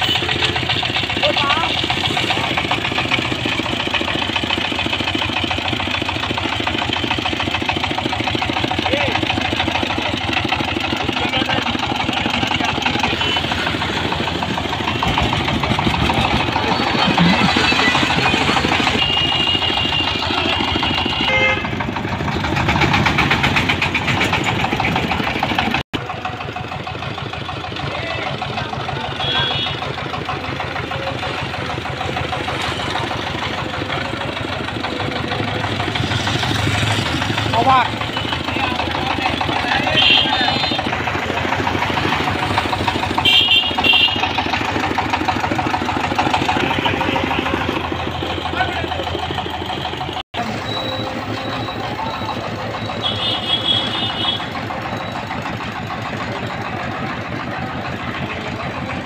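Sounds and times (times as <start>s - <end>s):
diesel tiller engine knocking: 0.0s - 59.0s.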